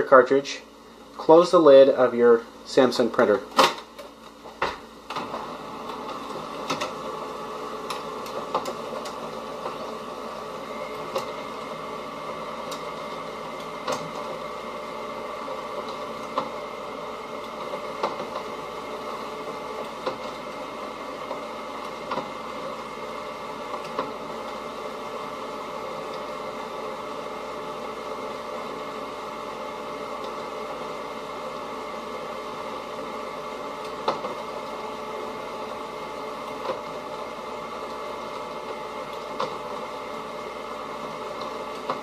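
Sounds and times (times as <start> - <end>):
printer motors and gears running: 3.2 - 42.0.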